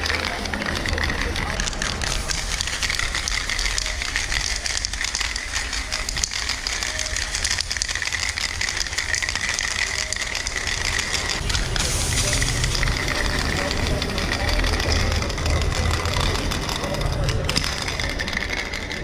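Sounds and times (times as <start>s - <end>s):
spray paint can hissing: 0.0s - 18.6s
low rumble: 0.4s - 19.0s.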